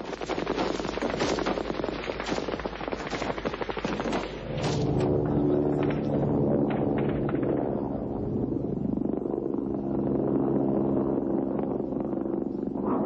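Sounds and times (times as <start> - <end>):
steady droning hum: 0.0 - 13.0.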